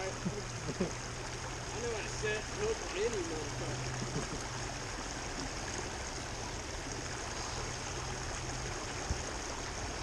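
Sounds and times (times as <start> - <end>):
flowing creek water: 0.0 - 10.0.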